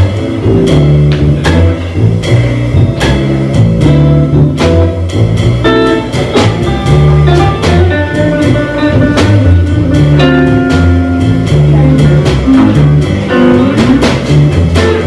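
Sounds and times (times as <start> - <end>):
jazz guitar: 0.0 - 15.0
plucked double bass: 0.0 - 15.0.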